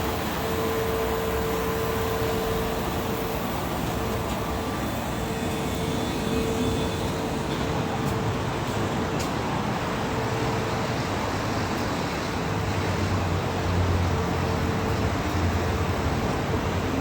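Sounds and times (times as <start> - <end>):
machining center running with whine: 0.0 - 17.0.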